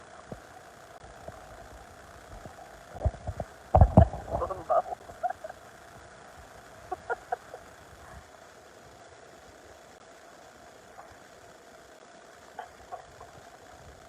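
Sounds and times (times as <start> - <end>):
motor hum: 0.0 - 14.0.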